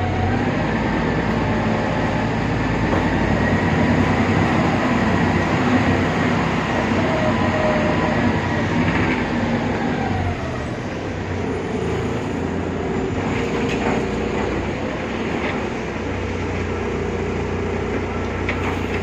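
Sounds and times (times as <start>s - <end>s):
bus engine whine and hum: 0.0s - 19.0s.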